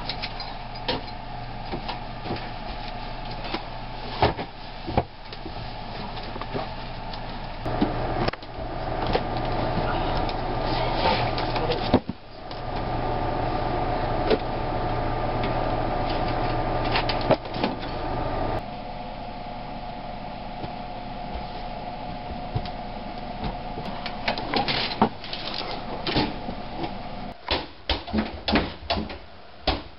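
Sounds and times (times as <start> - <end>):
steady background hum: 0.0 - 29.9.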